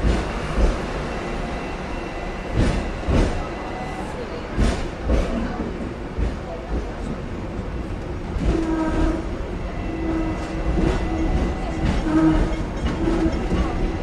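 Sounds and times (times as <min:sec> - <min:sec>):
tram rumbling on track: 0:00.0 - 0:14.0
tram whine: 0:00.0 - 0:14.0.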